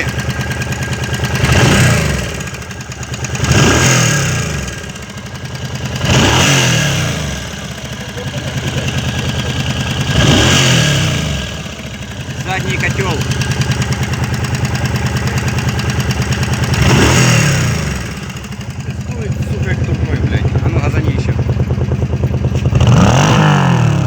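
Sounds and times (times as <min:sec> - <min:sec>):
engine knocking: 0:00.0 - 0:24.0
motorcycle engine idling and revving: 0:00.0 - 0:24.0.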